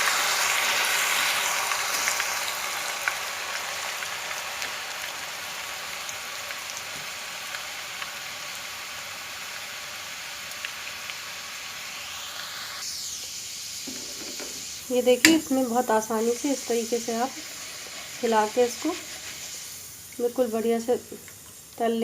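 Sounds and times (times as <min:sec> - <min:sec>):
potato deep-frying in oil: 0:00.0 - 0:22.0.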